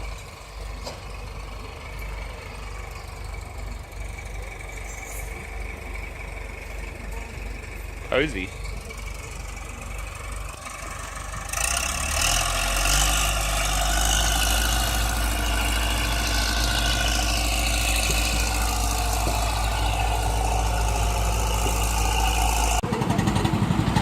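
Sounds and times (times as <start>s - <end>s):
engine low drone: 0.0s - 24.0s.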